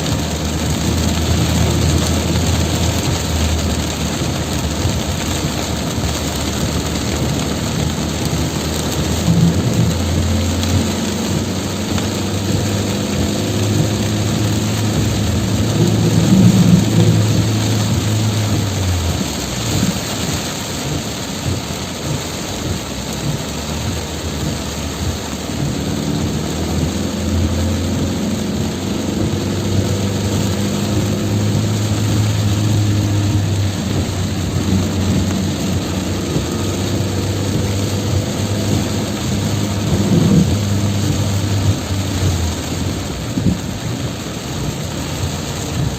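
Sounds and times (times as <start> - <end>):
heavy rain hissing: 0.0 - 45.9
vehicle engine hum: 0.0 - 45.9.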